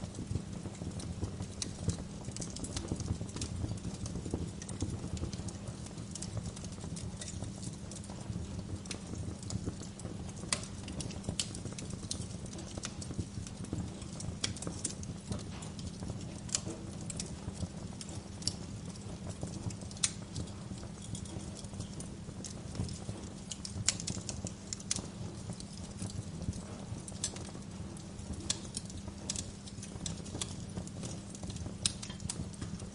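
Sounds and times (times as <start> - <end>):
bonfire crackling and popping: 0.0 - 32.9
low fire rumble: 0.0 - 32.9.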